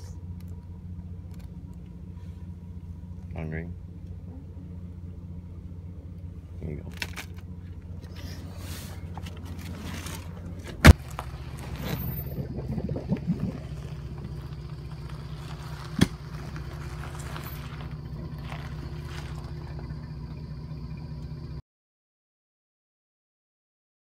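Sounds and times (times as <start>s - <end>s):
engine idling hum: 0.0s - 21.6s
faint high whine: 0.0s - 21.6s.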